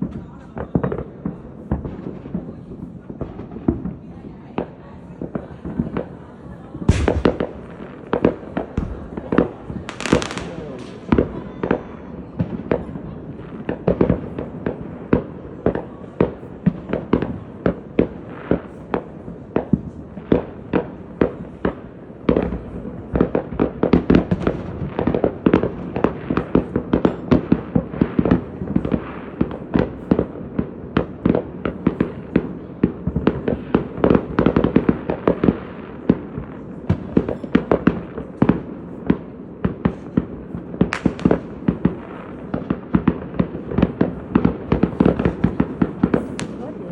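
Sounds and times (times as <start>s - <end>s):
fireworks bangs and pops: 0.0s - 46.9s.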